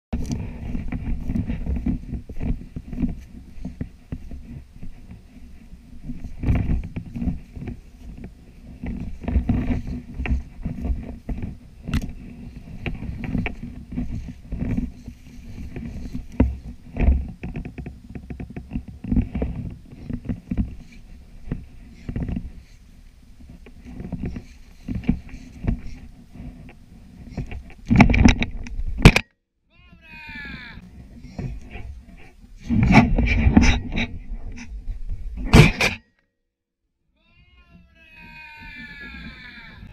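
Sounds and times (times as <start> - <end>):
low rumble of handling noise: 0.1 - 29.0, 30.3 - 36.0
brush scraping and rustling: 0.1 - 29.1, 30.2 - 36.0, 38.2 - 39.9.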